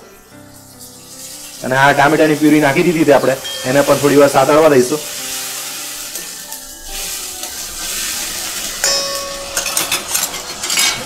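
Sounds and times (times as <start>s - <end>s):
tomato puree sizzling in oil: 0.0s - 11.0s
steel utensils clinking: 0.2s - 11.0s.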